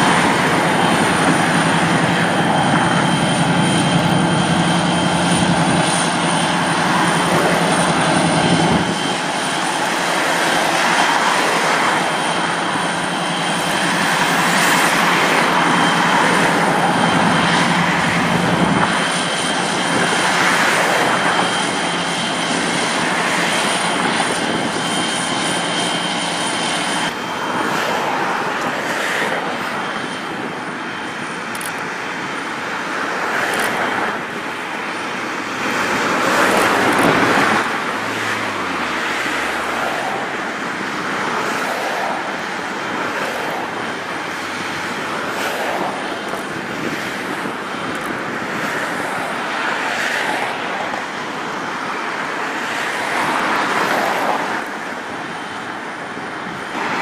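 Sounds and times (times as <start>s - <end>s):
diesel locomotive engine hum: 0.0s - 57.0s
outdoor noise: 0.0s - 57.0s.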